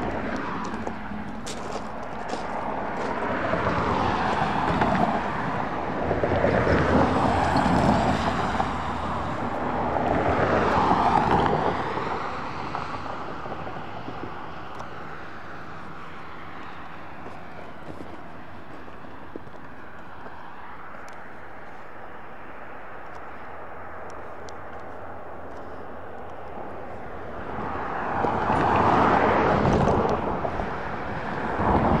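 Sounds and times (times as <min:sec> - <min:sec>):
car crossing railway tracks: 0:00.0 - 0:32.0
cars driving past: 0:00.0 - 0:32.0
faint road noise: 0:00.0 - 0:32.0.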